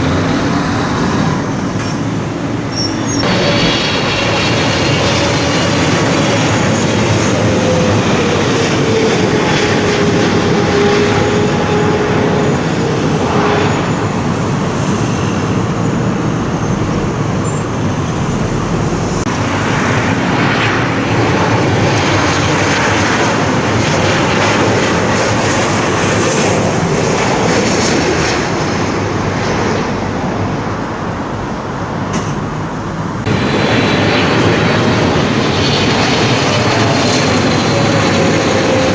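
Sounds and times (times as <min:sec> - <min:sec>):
jet engine rush overhead: 0:00.0 - 0:38.9
jet engine whine: 0:00.0 - 0:38.9.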